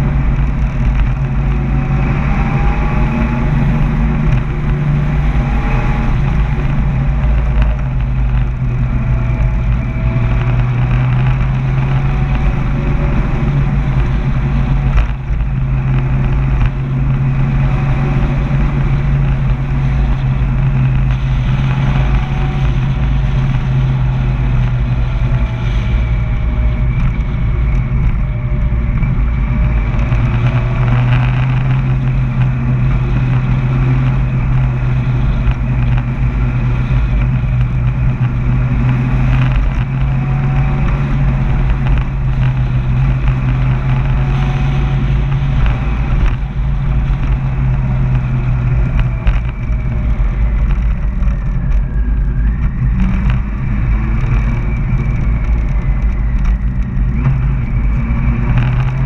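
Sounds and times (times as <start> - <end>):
road rumble: 0.0 - 59.0
vehicle engine humming: 0.0 - 59.0
wind noise: 0.0 - 59.0.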